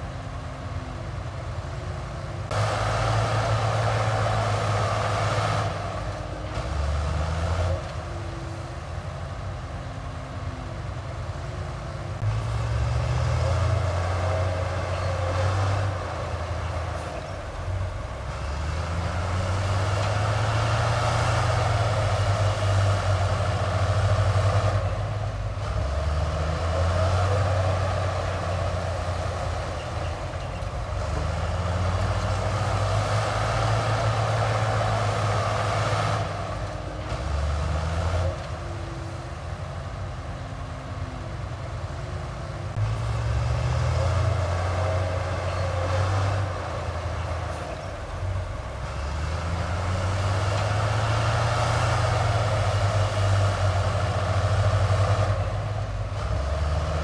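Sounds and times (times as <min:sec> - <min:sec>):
heavy diesel engine revving: 0:02.4 - 0:10.2, 0:10.9 - 0:57.0.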